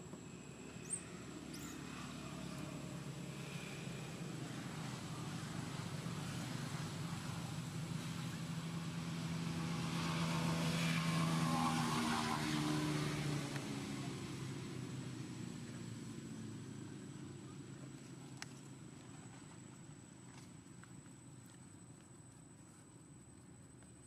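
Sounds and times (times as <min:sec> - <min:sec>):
vehicle engine passing by: 0:00.1 - 0:19.6.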